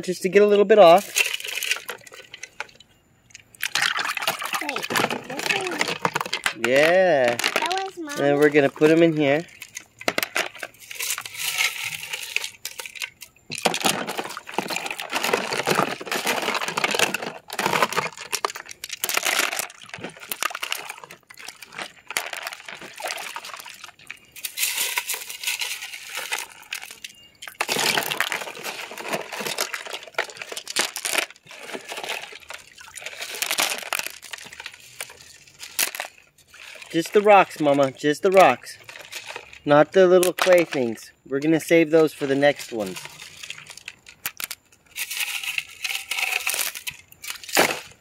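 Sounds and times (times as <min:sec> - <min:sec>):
water splashing in bucket: 0:00.8 - 0:41.0, 0:42.2 - 0:48.0
stones clicking into colander: 0:00.8 - 0:48.0.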